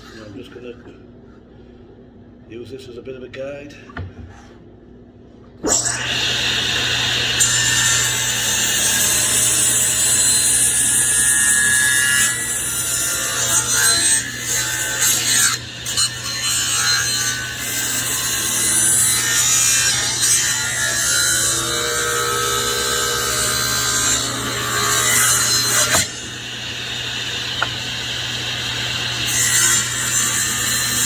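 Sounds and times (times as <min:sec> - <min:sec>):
power saw cutting board: 0:05.6 - 0:31.0.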